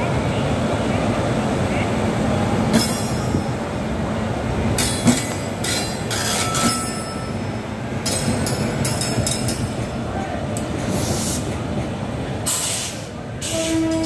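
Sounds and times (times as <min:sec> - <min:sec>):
train rolling with low rumble: 0:00.0 - 0:14.0.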